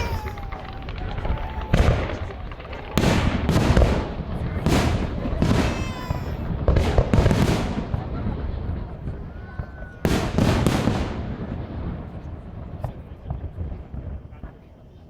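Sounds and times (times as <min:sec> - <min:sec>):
fireworks booming: 0:00.0 - 0:14.8.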